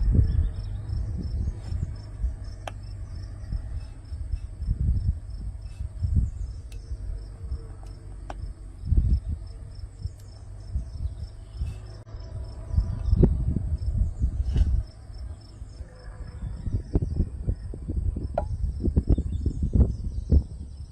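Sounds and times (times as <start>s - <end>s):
cricket chirping: 0.0s - 20.0s
cricket steady high trill: 0.0s - 20.0s
loud low rumbling bursts: 0.0s - 20.8s.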